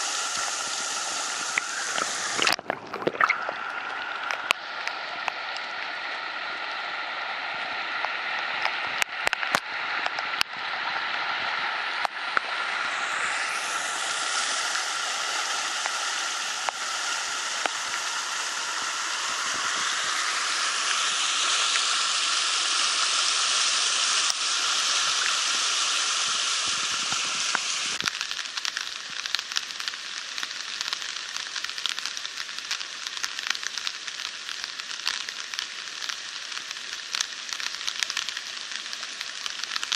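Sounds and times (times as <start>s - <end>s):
floodwater rushing through creek: 0.0s - 39.9s.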